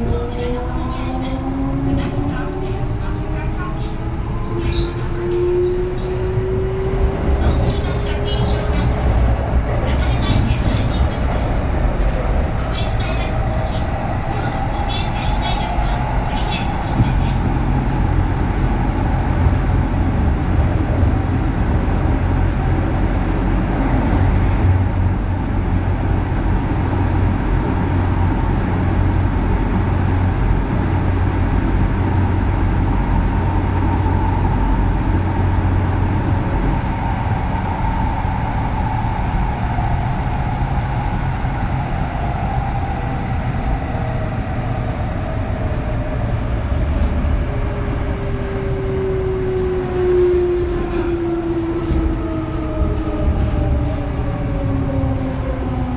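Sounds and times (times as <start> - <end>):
train running rumble: 0.0 - 55.9.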